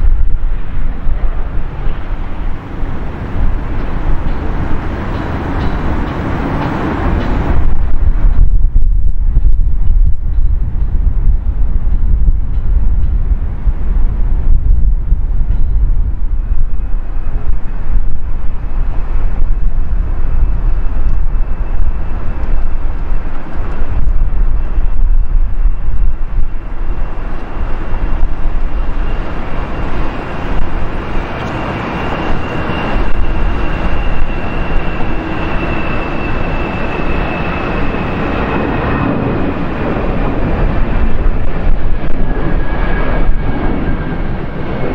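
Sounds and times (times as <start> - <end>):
high engine whine: 0.0 - 44.9
jet engines rumbling: 0.0 - 44.9.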